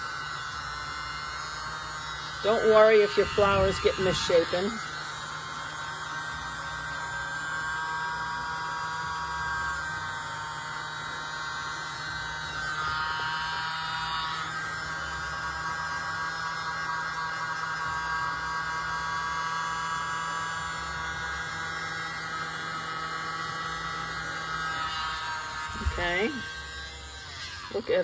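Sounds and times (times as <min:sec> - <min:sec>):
mini blower whining: 0:00.0 - 0:28.0.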